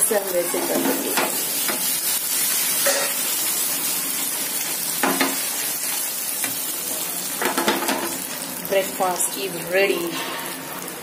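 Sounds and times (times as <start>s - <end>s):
omelette sizzling in a pan: 0.0s - 11.0s.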